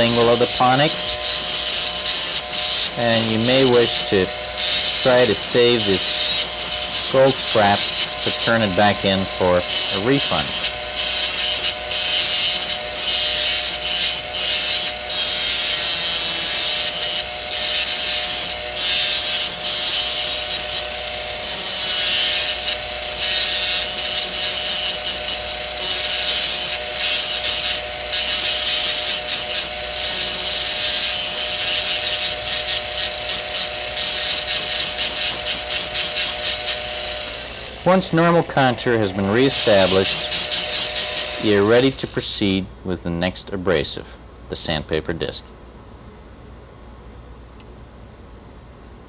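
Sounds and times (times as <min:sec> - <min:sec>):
disc grinding metal: 0:00.0 - 0:42.6
dental handpiece motor whine: 0:00.0 - 0:44.0.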